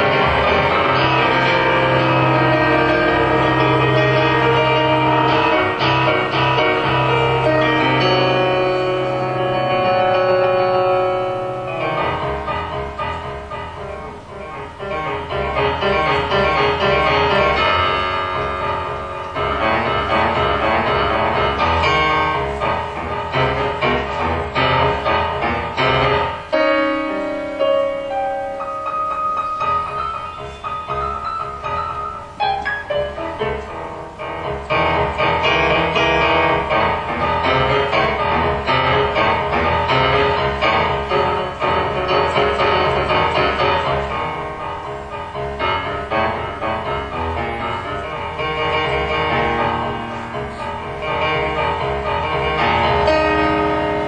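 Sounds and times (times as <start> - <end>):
piano film score: 0.0 - 54.0.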